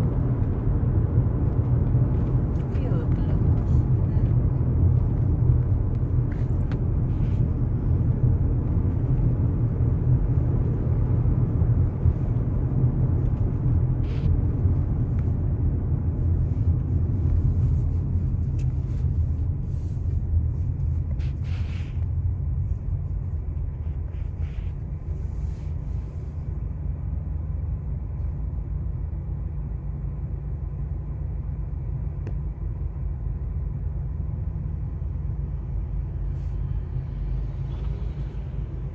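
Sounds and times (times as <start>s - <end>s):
car driving on highway: 0.0s - 38.9s.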